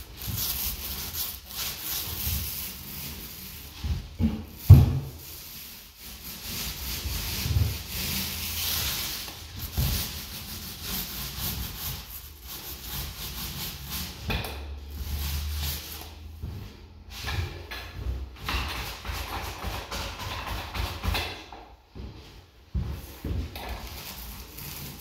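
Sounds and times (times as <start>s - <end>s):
paint roller rubbing on wall: 0.0s - 25.0s.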